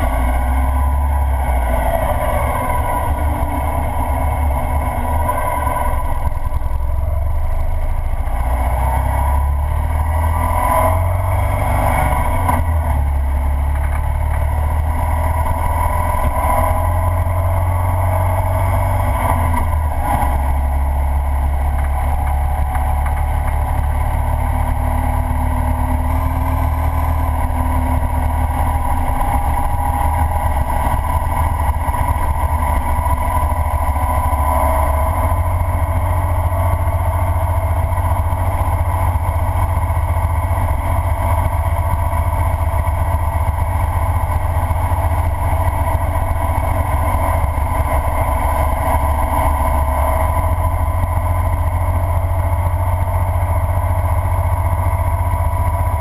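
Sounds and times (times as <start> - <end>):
motorcycle engine running: 0.0 - 56.0
wind rumbling on camera: 0.0 - 56.0.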